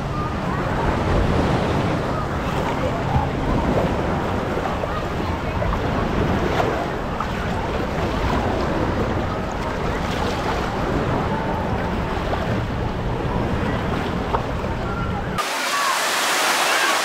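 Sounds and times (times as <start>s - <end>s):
water sloshing and lapping: 0.0s - 17.0s.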